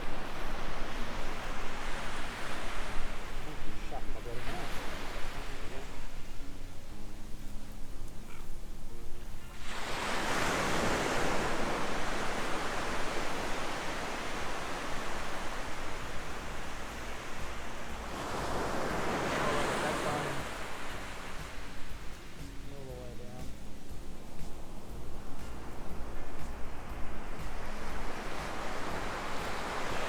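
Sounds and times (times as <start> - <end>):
waves breaking on beach: 0.0 - 30.0.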